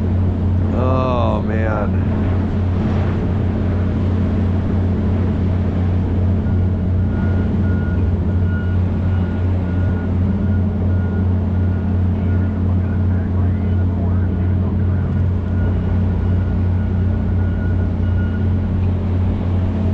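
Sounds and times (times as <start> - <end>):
large engine humming: 0.0 - 19.9.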